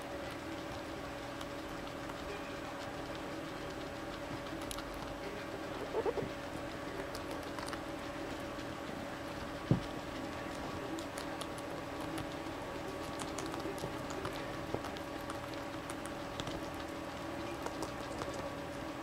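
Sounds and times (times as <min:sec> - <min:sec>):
guinea pigs chewing: 0:00.0 - 0:19.0.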